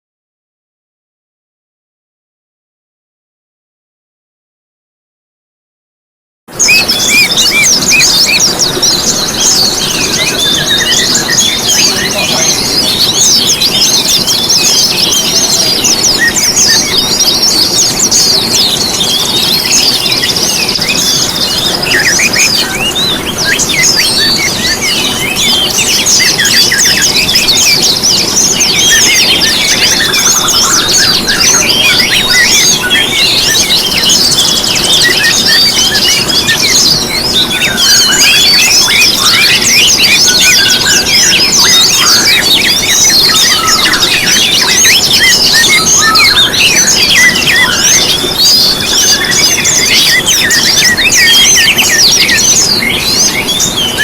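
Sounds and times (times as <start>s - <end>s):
songbirds chirping and twittering: 6.5s - 54.0s.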